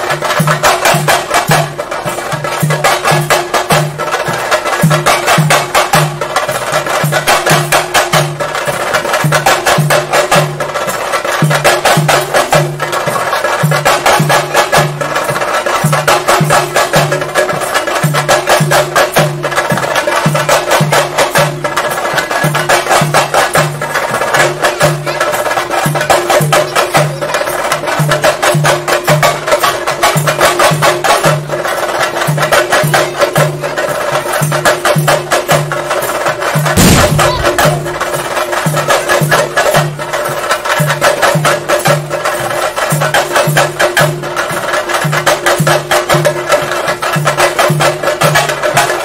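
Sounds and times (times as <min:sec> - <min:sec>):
fast ensemble drumming: 0:00.0 - 0:49.0.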